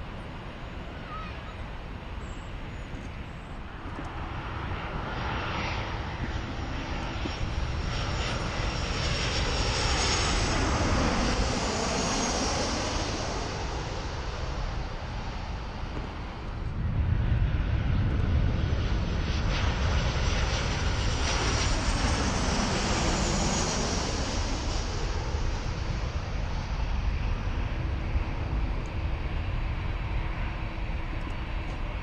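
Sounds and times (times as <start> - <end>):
jet airliner passing overhead: 0.0 - 32.0.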